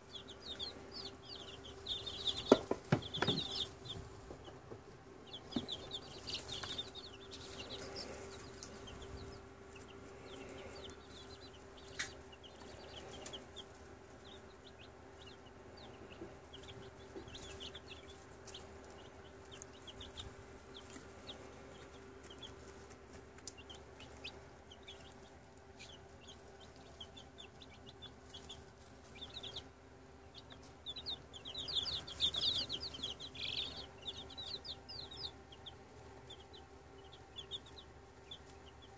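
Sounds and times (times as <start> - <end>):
chicks peeping: 0.0 - 38.9
steady low hum: 0.0 - 38.9.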